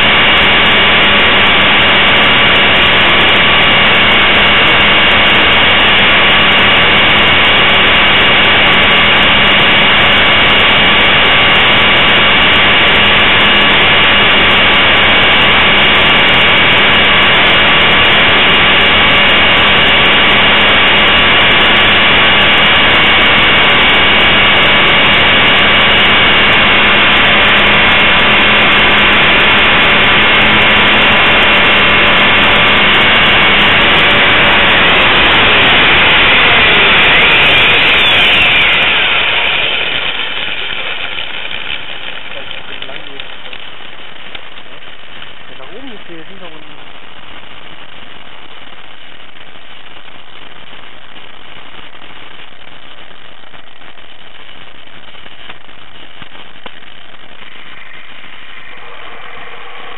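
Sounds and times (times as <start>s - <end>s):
rc helicopter motor whine: 0.0s - 59.9s.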